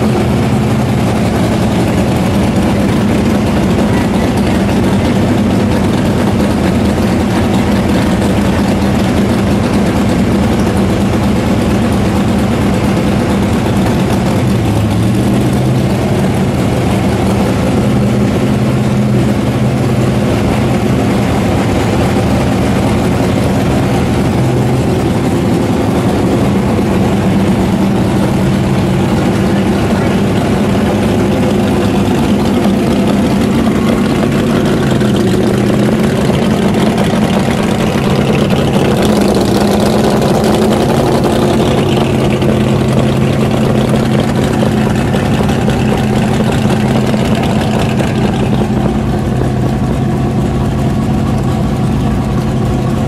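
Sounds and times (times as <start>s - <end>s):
loud engine idling: 0.0s - 53.0s.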